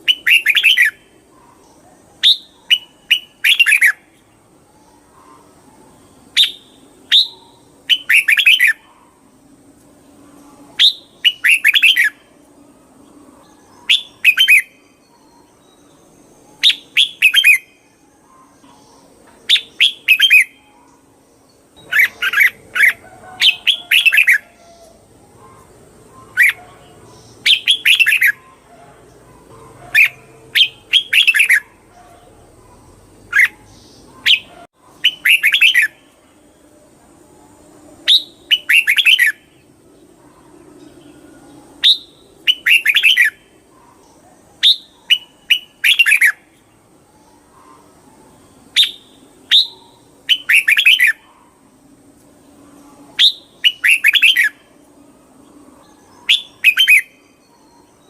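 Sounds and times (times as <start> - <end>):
bird singing warbled phrases: 0.0 - 58.0.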